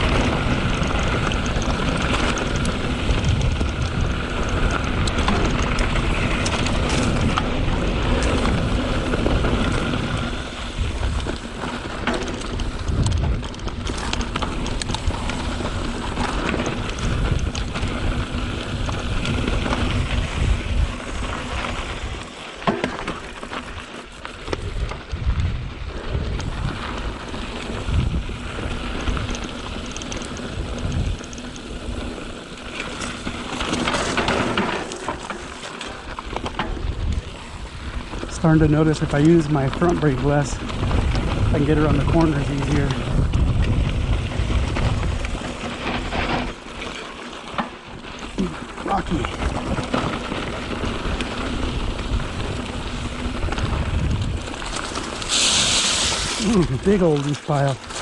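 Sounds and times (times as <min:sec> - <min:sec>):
wind rushing over microphone: 0:00.0 - 0:22.3, 0:23.7 - 0:34.7, 0:36.1 - 0:46.7, 0:48.3 - 0:58.0
bike knocking and rattling over rocks: 0:00.0 - 0:58.0.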